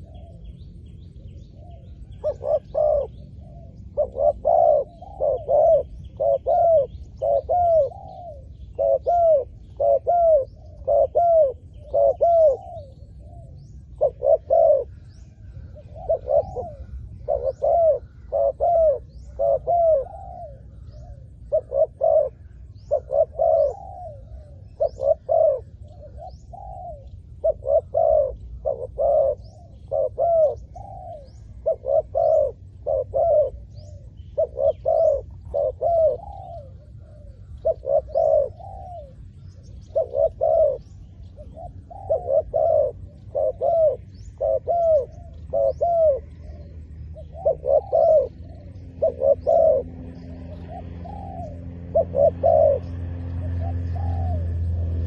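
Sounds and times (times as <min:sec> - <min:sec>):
dove cooing: 0:00.0 - 0:55.0
small birds chirping: 0:00.0 - 0:55.0.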